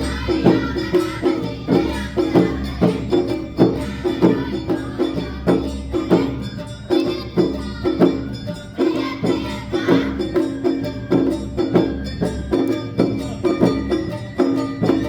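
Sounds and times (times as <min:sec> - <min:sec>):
drums beating: 0:00.0 - 0:15.0
shamisen: 0:00.0 - 0:15.0.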